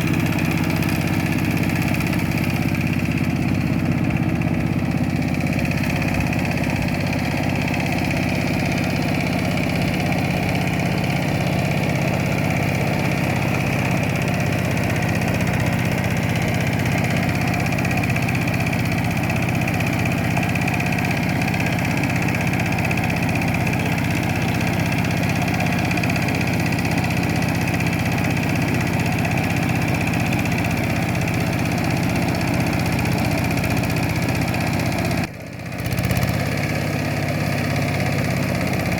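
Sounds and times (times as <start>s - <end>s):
tractor engine running steadily: 0.0s - 38.9s.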